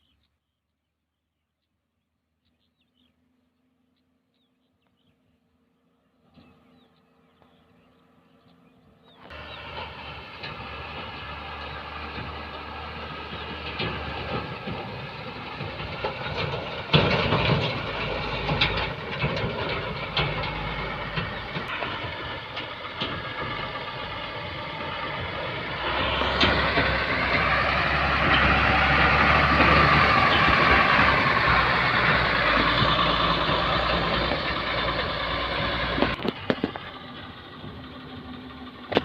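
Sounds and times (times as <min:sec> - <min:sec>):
diesel engine running: 0:05.8 - 0:39.0.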